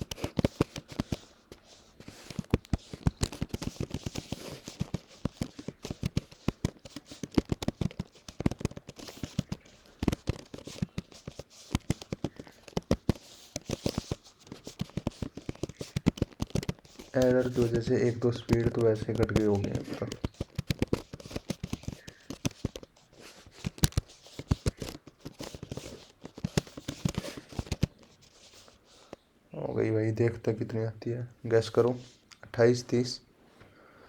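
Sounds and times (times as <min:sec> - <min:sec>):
laptop keyboard typing: 0:00.0 - 0:29.2.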